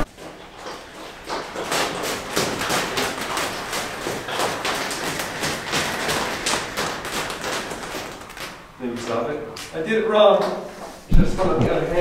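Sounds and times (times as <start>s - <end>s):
burning steel wool crackling: 0.0s - 9.8s.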